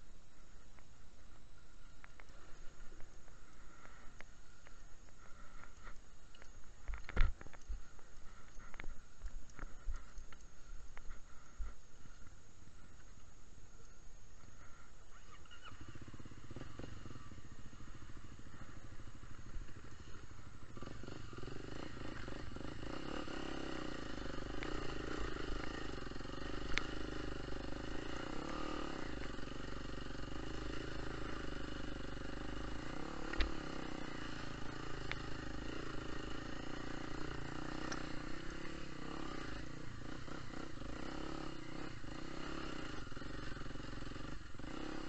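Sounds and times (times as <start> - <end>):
motorcycle engine running: 0.0 - 13.3, 14.4 - 45.0.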